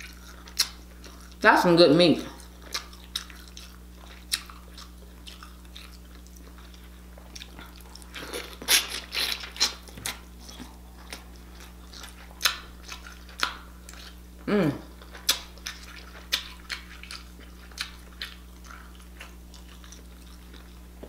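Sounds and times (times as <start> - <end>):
biting and chewing: 0.0 - 1.4, 2.3 - 21.0.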